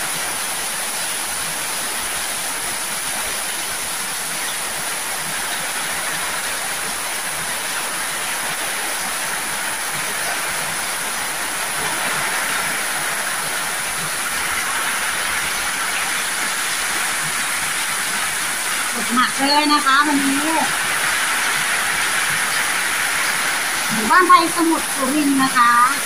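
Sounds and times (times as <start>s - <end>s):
heavy rain on metal roofs: 0.0s - 26.0s
rainwater pouring off eaves: 0.0s - 26.0s.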